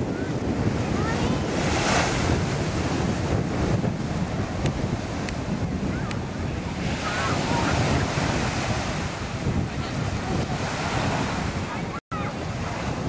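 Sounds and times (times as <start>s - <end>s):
wind buffeting microphone: 0.0s - 13.0s
small waves washing: 0.2s - 13.0s.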